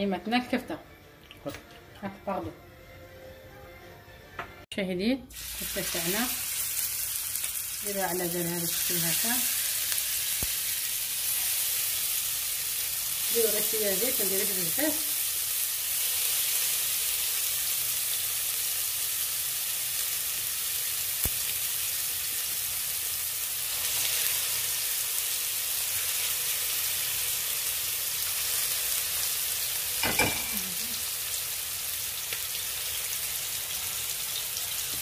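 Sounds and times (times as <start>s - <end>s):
meat patties sizzling in oil: 5.3s - 35.0s.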